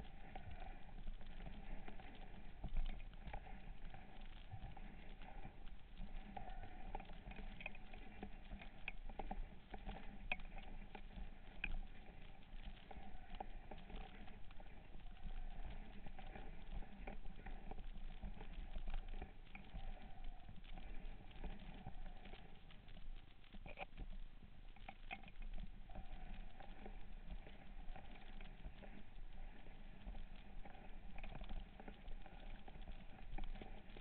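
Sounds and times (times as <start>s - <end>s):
underwater crackling clicks: 0.0s - 34.0s.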